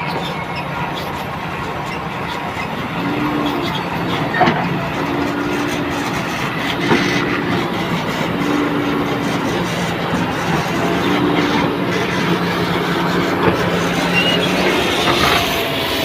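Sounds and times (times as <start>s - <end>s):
diesel engine under load: 0.0s - 16.0s
hydraulic whine: 0.0s - 16.0s.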